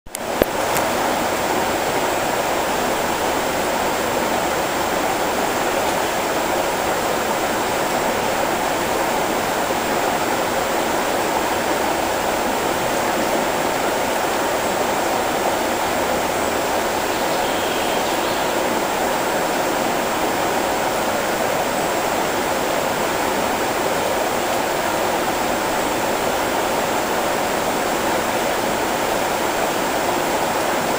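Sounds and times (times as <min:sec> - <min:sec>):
river rushing over rapids: 0:00.1 - 0:30.9.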